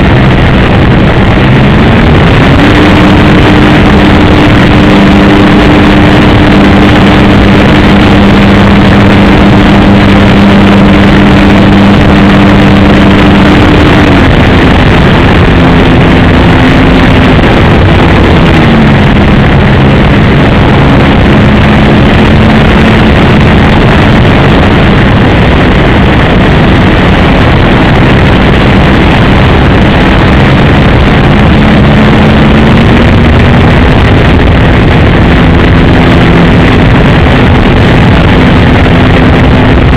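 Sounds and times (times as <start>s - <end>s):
model airplane engine running: 0.0s - 39.9s
rough distorted rush of noise: 0.0s - 39.9s.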